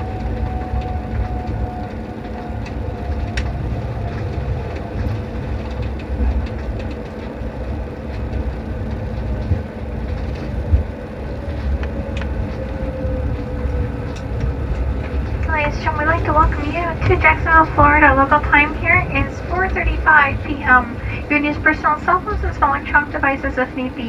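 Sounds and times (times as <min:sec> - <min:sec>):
jet engines winding down: 0:00.0 - 0:24.0
wheels rumbling on pavement: 0:00.0 - 0:24.0.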